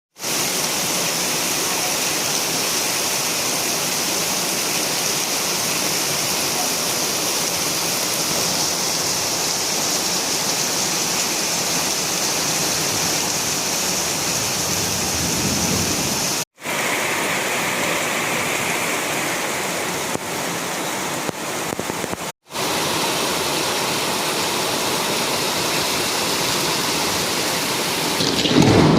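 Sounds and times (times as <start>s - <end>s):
heavy rain hissing: 0.2s - 28.9s.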